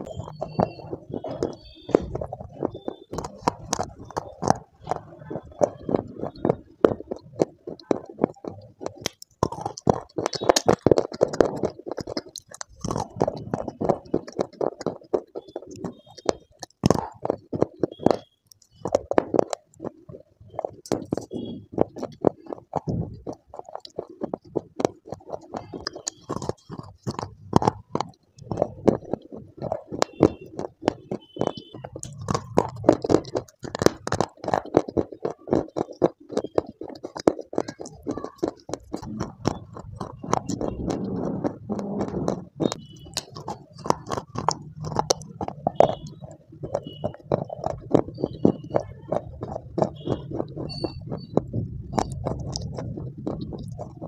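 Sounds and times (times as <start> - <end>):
chewing crunchy clay: 0.0 - 54.0.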